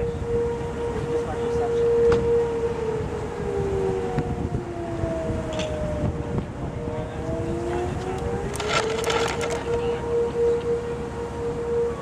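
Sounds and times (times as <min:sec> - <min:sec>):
warning sirens wailing: 0:00.0 - 0:12.0
wind on microphone: 0:00.0 - 0:12.0.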